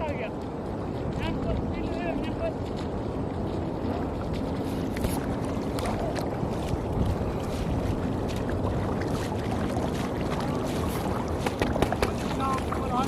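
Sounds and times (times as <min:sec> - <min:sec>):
small clicks and splashes: 0:00.0 - 0:13.0.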